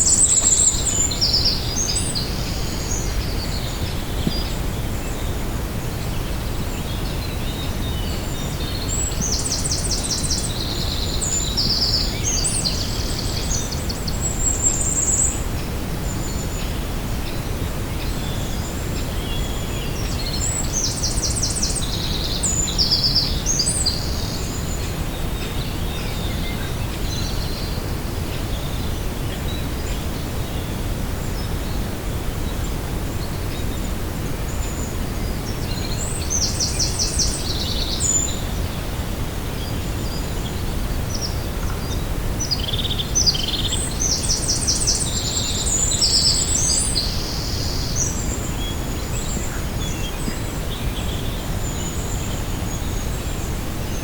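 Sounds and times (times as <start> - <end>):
low rumble of wind: 0.0 - 54.0
songbirds trilling: 0.0 - 54.0.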